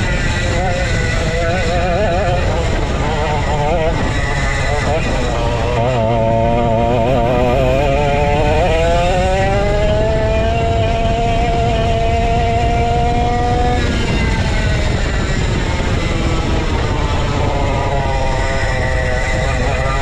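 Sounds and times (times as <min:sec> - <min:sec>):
go-kart engine revving: 0:00.0 - 0:20.0.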